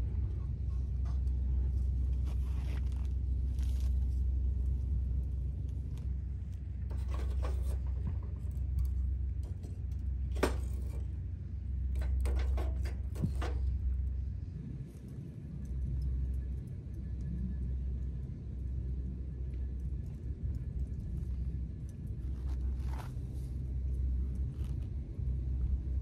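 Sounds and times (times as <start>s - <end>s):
wind buffeting microphone: 0.0s - 2.3s, 3.1s - 26.0s.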